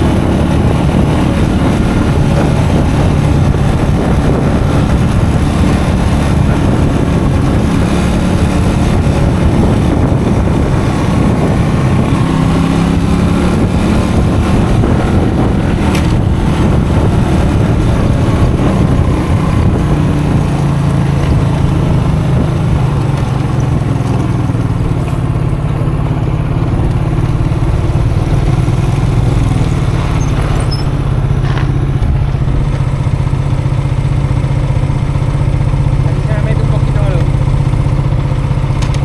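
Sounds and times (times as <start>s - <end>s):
motorcycle engine running: 0.0s - 39.0s
wind rumble: 0.0s - 39.0s.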